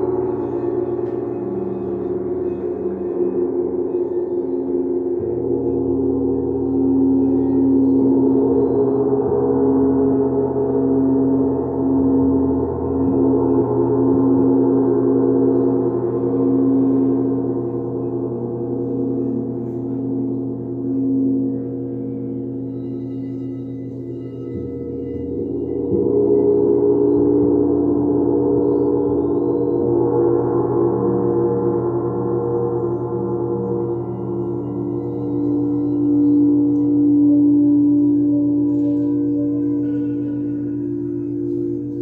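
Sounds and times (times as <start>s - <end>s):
singing bowls ringing: 0.0s - 42.0s.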